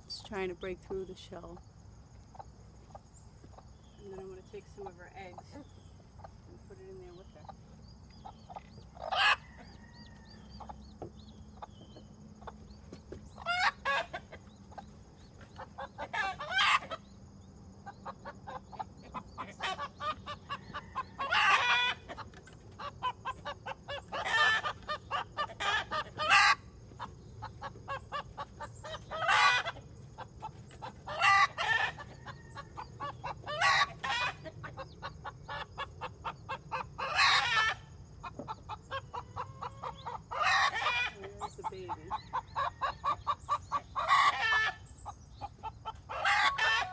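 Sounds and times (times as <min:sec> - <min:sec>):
hen clucking and squawking: 0:02.3 - 0:17.1, 0:17.8 - 0:46.9.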